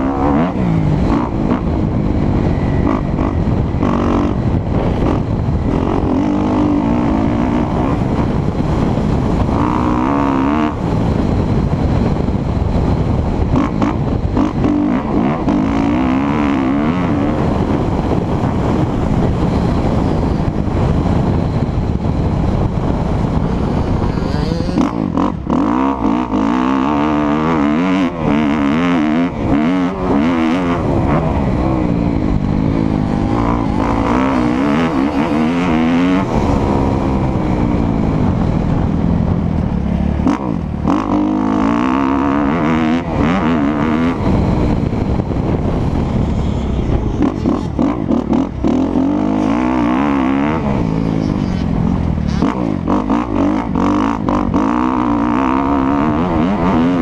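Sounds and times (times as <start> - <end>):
motorcycle engine revving: 0.0 - 57.0
wind on microphone: 0.0 - 57.0.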